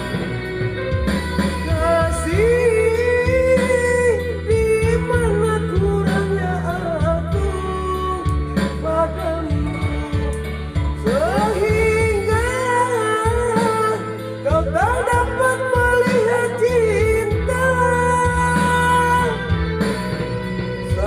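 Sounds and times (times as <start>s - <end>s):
instrumental accompaniment: 0.0s - 21.0s
woman singing: 1.5s - 20.0s.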